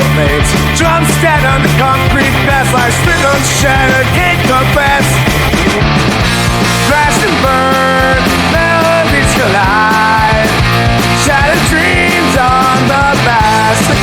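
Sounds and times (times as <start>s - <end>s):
hard rock music: 0.0s - 14.0s.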